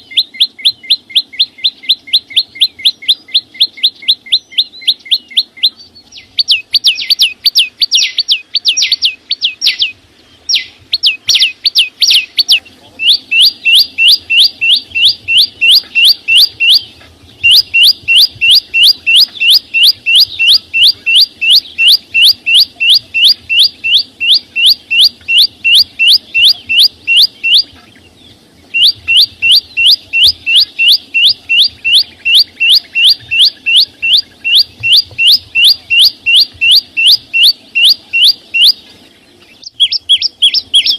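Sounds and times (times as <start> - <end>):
songbird sharp chip calls: 0.0 - 40.9.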